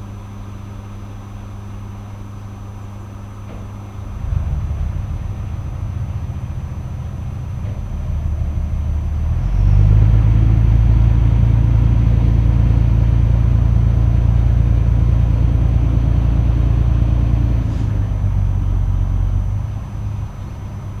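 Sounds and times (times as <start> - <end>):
large engine rumbling: 3.4 - 21.0.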